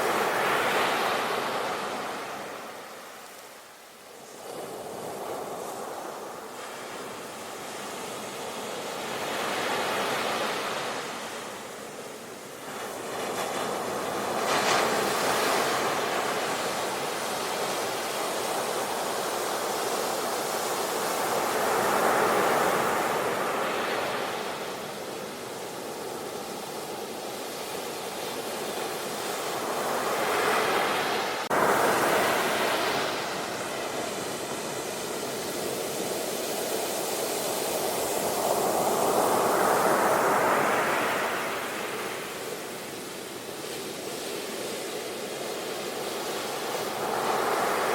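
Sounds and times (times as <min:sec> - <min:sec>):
waves breaking on shore: 0:00.0 - 0:47.9.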